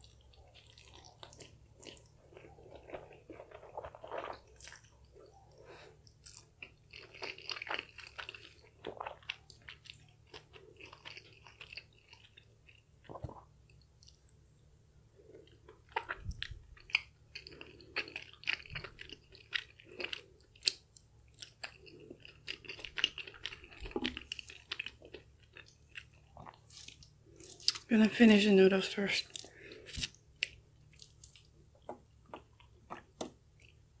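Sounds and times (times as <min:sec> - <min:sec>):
wet sticky chewing: 0:00.0 - 0:14.3, 0:15.4 - 0:27.9, 0:29.2 - 0:33.8.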